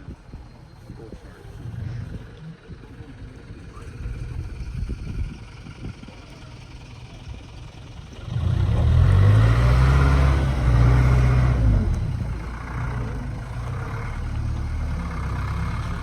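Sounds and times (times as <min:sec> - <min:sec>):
engine pulling under load: 0:00.2 - 0:16.0.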